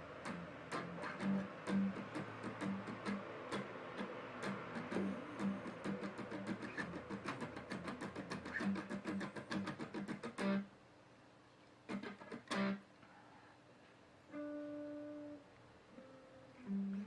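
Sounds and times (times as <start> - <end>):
guitar strumming: 0.0 - 10.7, 11.9 - 12.8, 14.3 - 17.0.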